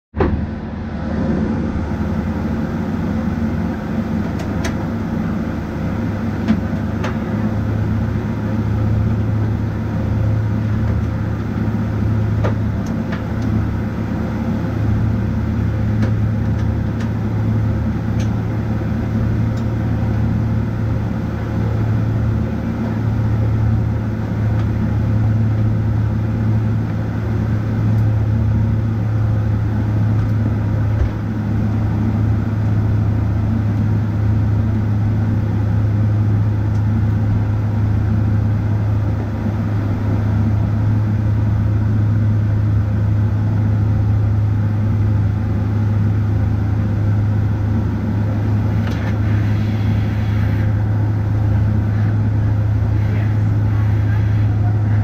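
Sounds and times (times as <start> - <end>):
airplane cabin hum: 0.1 - 55.0.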